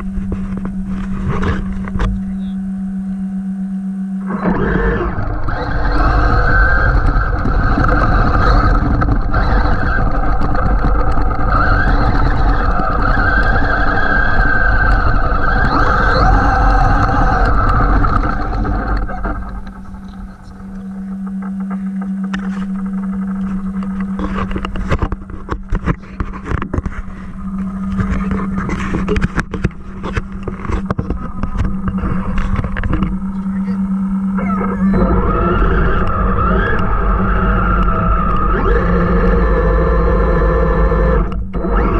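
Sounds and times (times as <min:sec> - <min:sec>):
electric motor whining: 0:00.0 - 0:41.9
tyres running over rough ground: 0:04.2 - 0:41.9.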